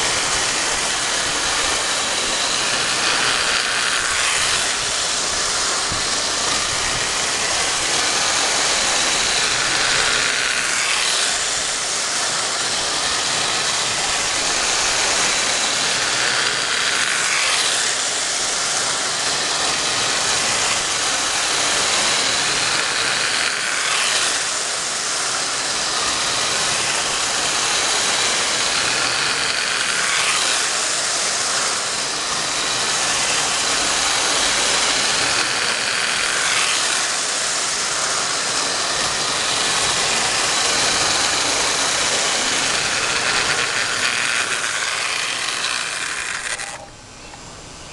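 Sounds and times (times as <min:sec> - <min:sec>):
wheel clatter on rails: 0:00.0 - 0:46.8
toy train motor hum: 0:00.0 - 0:47.7.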